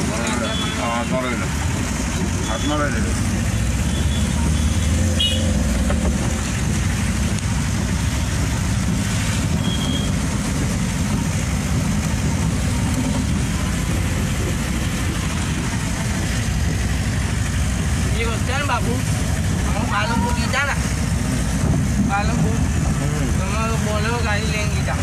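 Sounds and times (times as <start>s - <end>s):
heavy rain hissing: 0.0s - 24.9s
tyres on wet road: 0.0s - 25.0s
vehicle engine running: 0.0s - 25.0s.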